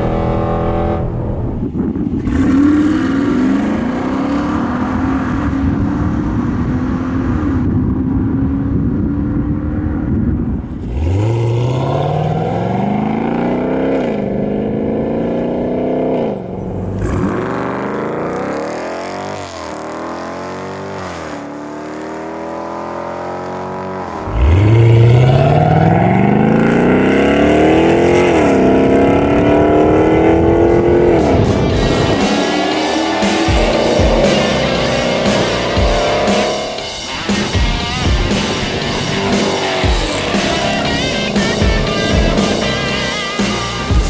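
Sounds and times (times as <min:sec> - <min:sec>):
car engine exhaust revving: 0:00.0 - 0:44.0.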